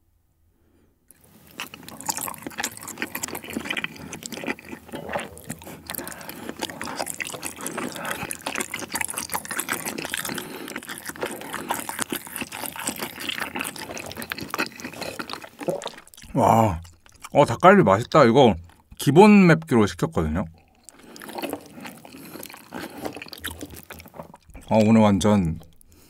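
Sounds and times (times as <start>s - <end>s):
person chewing wetly: 1.1s - 19.8s, 20.5s - 26.0s.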